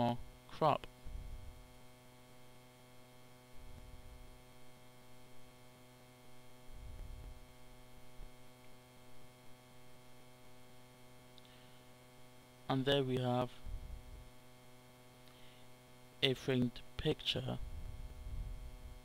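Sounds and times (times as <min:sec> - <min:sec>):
faint electrical mains hum: 0:00.0 - 0:19.0.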